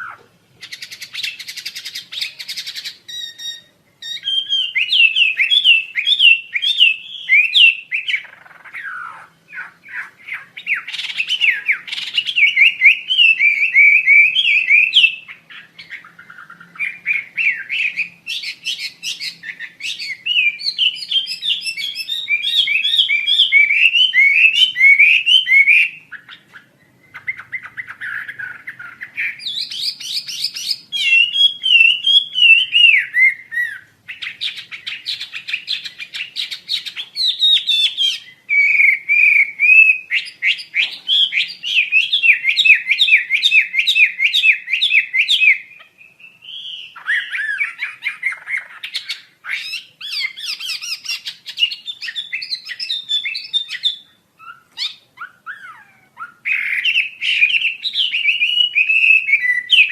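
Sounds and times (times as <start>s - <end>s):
songbird whistled chirps: 0.0s - 59.9s.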